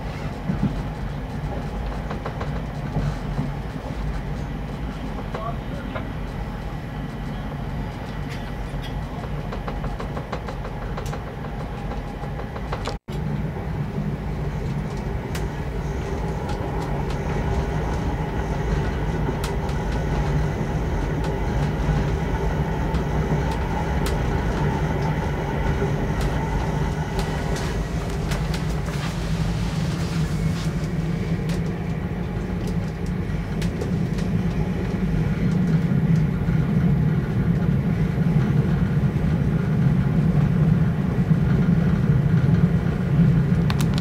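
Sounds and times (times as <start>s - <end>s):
train low rumble: 0.0s - 44.0s.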